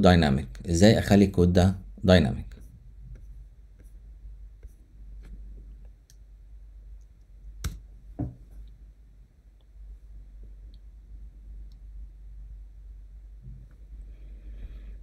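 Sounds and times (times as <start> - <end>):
low hum: 0.2 - 15.0.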